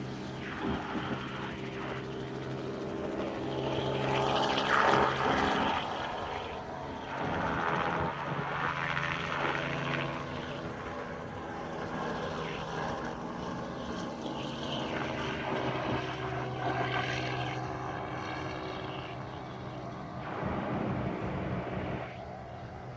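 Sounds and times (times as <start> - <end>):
helicopter engine and rotors: 0.0 - 22.9.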